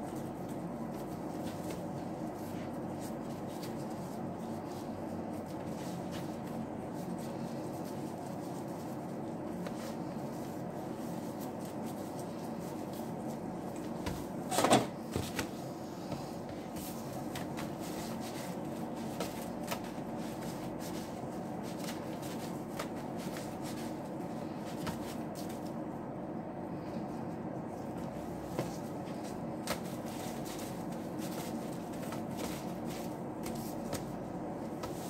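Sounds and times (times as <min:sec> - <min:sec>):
hands rolling sushi on board: 0:00.0 - 0:25.9, 0:27.0 - 0:35.0
kitchen hum: 0:00.0 - 0:35.0.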